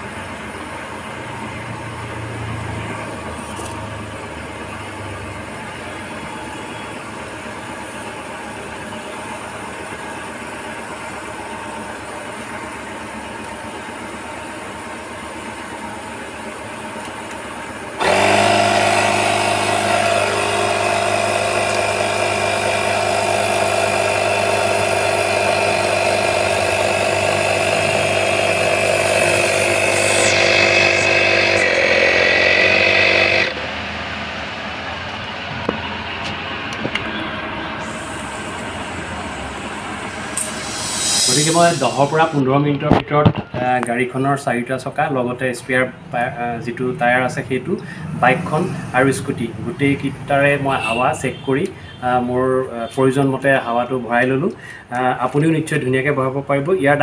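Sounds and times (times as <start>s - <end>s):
electric air compressor running: 0.0s - 43.0s, 46.4s - 51.0s.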